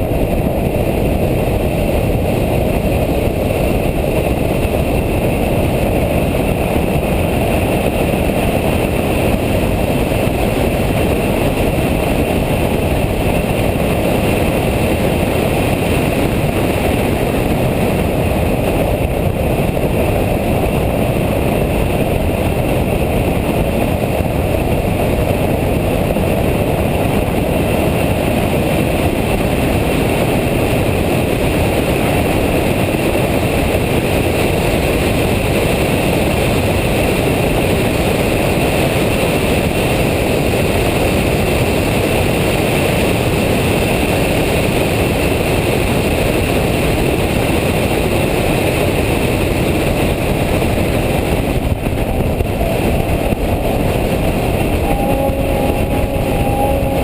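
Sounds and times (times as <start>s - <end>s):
engine tyre and wind noise: 0.0s - 57.0s.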